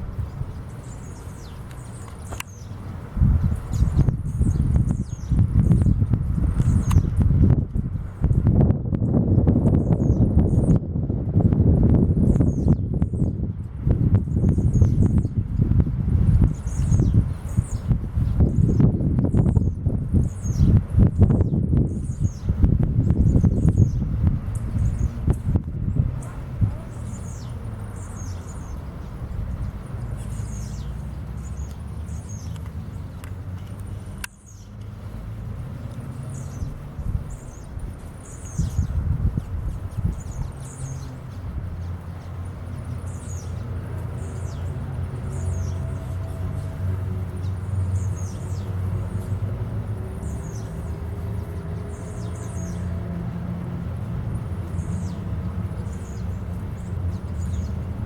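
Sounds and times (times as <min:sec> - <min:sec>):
small birds chirping: 0:00.0 - 0:10.9, 0:12.1 - 0:58.0
low steady rumble: 0:00.0 - 0:58.0.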